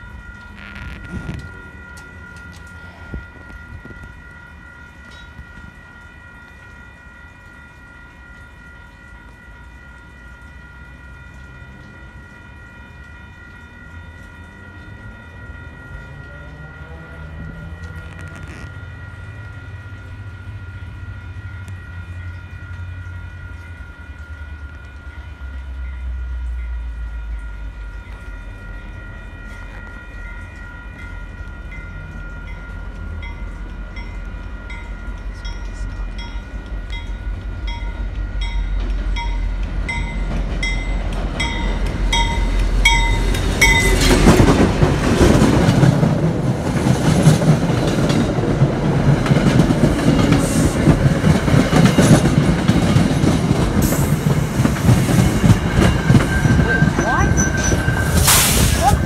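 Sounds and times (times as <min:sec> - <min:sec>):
high-pitched ringing tone: 0:00.0 - 0:44.2, 0:55.4 - 0:59.0
diesel train engine rumble: 0:00.0 - 0:59.0.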